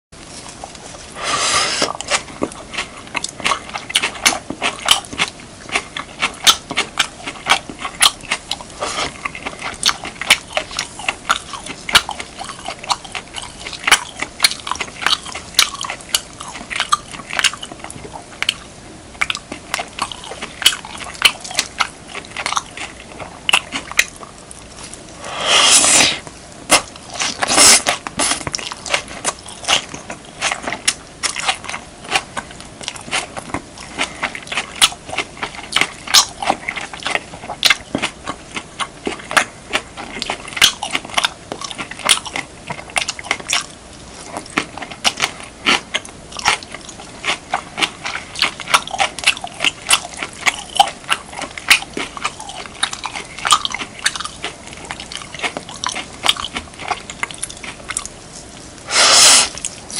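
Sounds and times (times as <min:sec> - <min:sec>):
crunchy chewing: 0:00.2 - 0:59.9.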